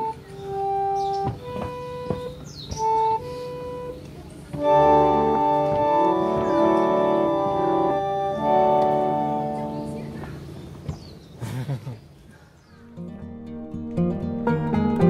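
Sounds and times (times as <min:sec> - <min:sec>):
organ playing chords: 0:00.0 - 0:10.7, 0:12.8 - 0:15.0.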